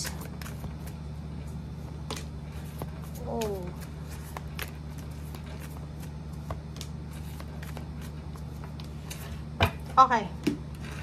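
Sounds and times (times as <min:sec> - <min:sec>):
cards being shuffled: 0:00.0 - 0:09.5
steady low hum: 0:00.0 - 0:11.0.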